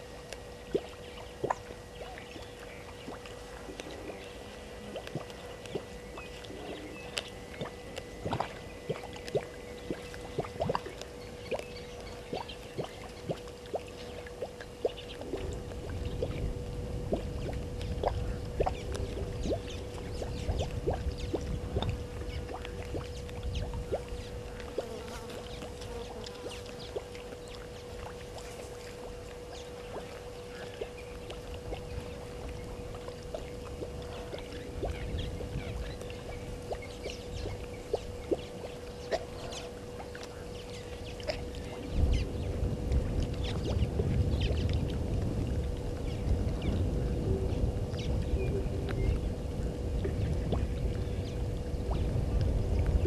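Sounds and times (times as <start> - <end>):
faint steady hum: 0.0 - 53.0
wind rumble on microphone: 0.0 - 53.0.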